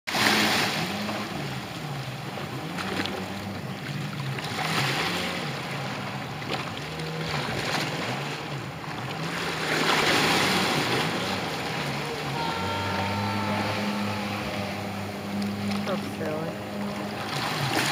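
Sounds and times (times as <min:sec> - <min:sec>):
jet ski engine running: 0:00.1 - 0:17.9.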